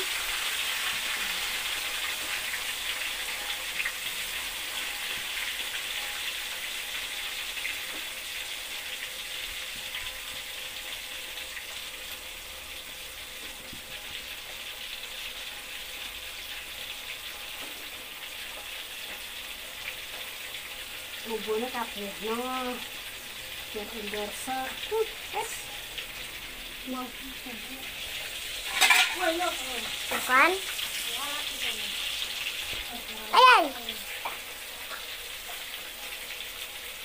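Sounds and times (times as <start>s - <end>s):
hot oil sizzling in a wok: 0.0s - 37.0s.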